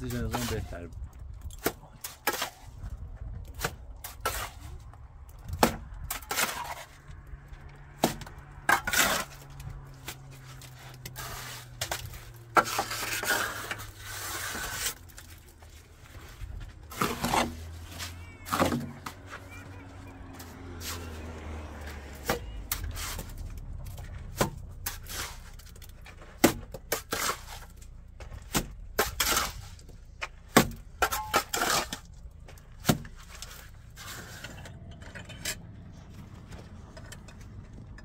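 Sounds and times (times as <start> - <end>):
rough scraping noise: 0.0 - 38.0.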